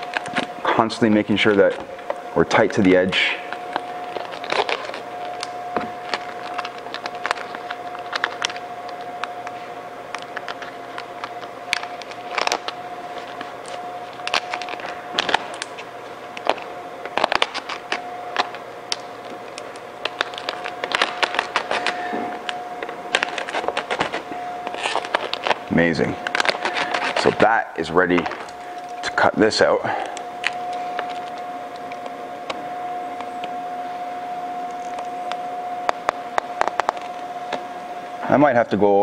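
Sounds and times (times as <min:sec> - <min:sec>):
vinyl film crackling under squeegee: 0:00.0 - 0:29.1, 0:30.4 - 0:33.6, 0:34.7 - 0:37.6
steady hum: 0:00.0 - 0:39.0.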